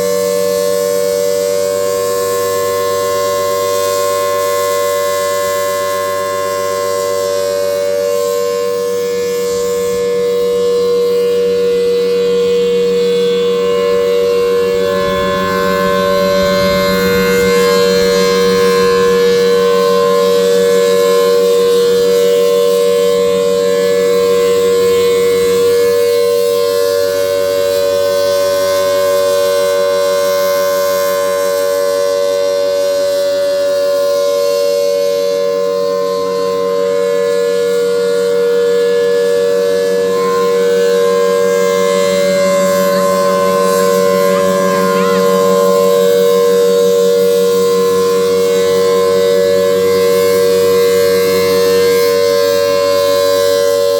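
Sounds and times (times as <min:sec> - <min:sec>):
outdoor warning siren wailing: 0:00.0 - 0:53.9.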